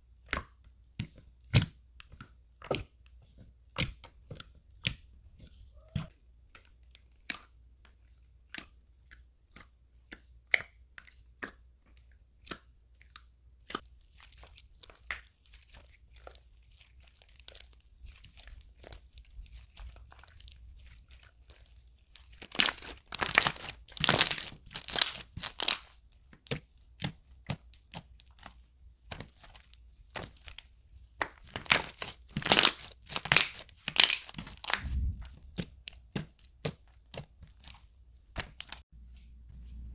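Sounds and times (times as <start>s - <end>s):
slime crackling: 3.9s - 38.8s.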